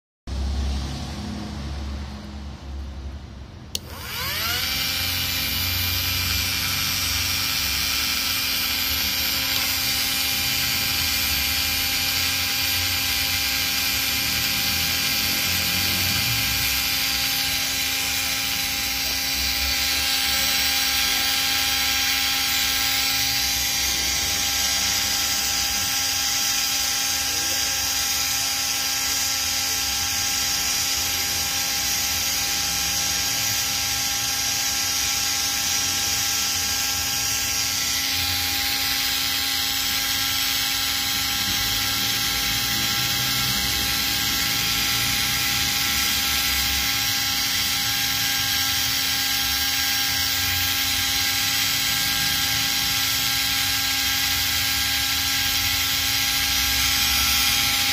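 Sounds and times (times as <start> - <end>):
electric motor whine: 3.7 - 57.9.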